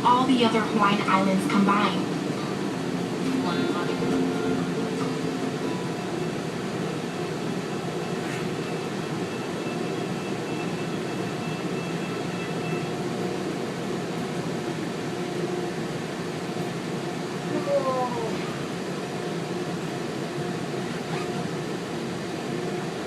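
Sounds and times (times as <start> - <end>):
tram running noise: 0.0 - 23.0.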